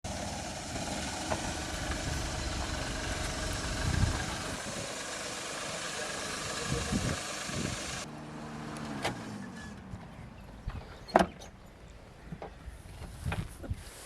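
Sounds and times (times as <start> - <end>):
car engine low rumble: 0.0 - 13.8.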